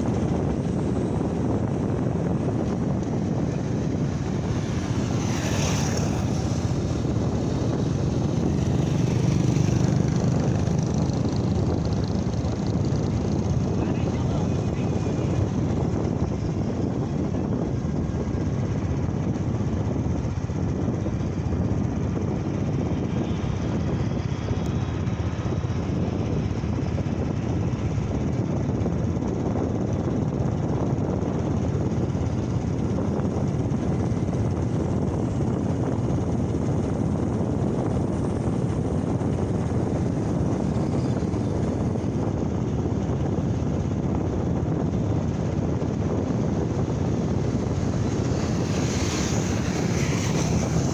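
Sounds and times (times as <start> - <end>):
motorcycle motor drone: 0.0 - 50.9
wind rushing on microphone: 0.0 - 50.9.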